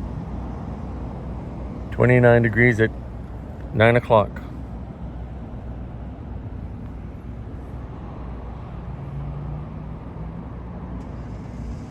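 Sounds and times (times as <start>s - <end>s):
vehicle rumble: 0.0s - 11.9s.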